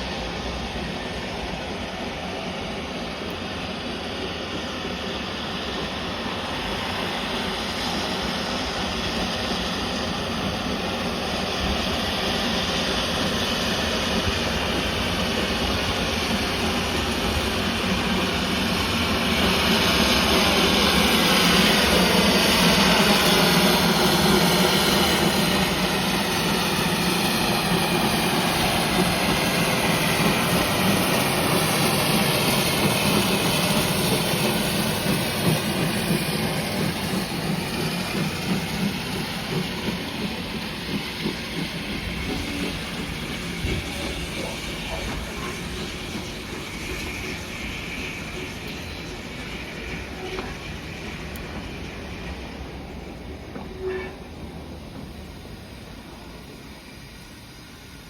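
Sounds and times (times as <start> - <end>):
train running past: 0.0 - 58.0.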